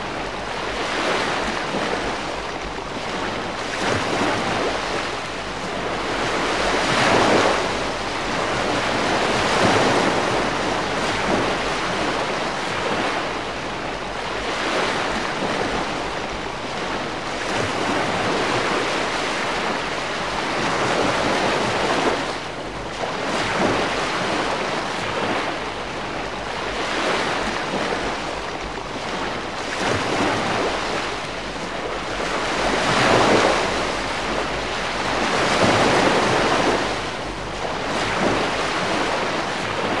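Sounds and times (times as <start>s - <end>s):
small waves washing onto shore: 0.0s - 40.0s.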